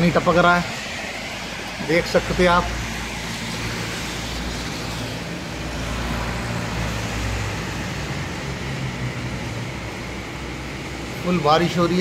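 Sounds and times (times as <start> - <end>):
heavy rain: 0.0 - 11.1.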